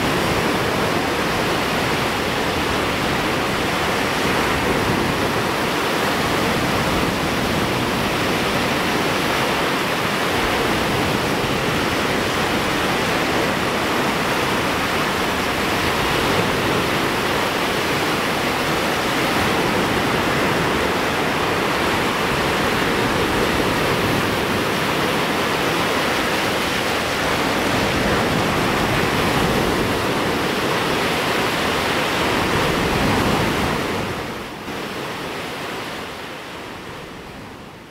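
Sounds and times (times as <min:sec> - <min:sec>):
small waves breaking on sand: 0:00.0 - 0:37.9.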